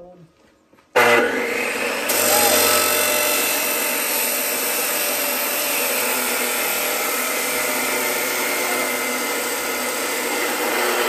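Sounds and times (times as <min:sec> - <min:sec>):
cut-off saw cutting steel: 0:01.0 - 0:11.0.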